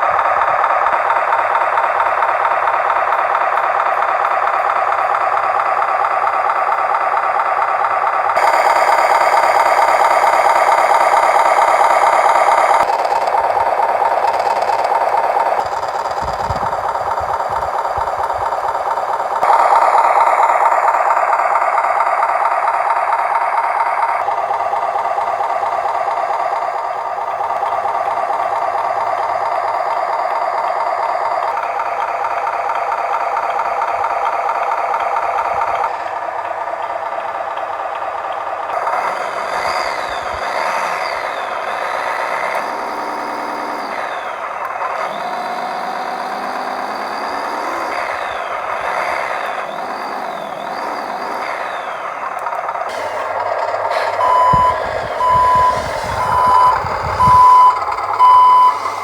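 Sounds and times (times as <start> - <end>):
toy truck motor whirring: 0.0 - 59.0.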